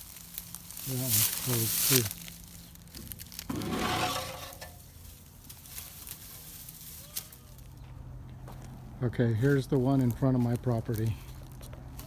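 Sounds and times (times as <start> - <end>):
footsteps crunching on dry ground: 0.0 - 12.0.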